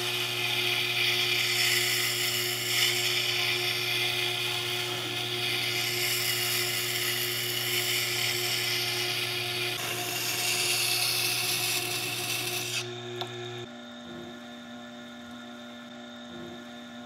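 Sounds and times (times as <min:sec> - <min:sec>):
grinder motor hum: 0:00.0 - 0:17.0.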